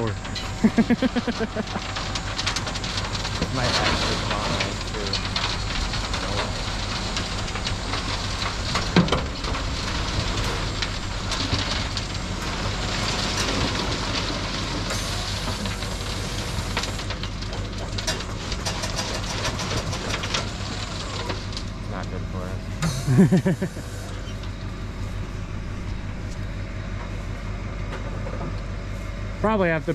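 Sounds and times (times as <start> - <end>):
vehicle engine rumbling: 0.0 - 29.9.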